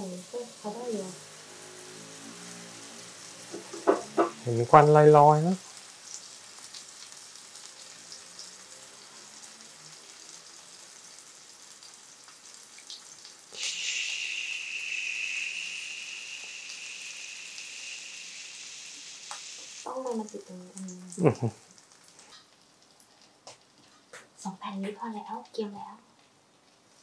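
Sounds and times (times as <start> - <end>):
bread sizzling in oil: 0.0 - 27.0.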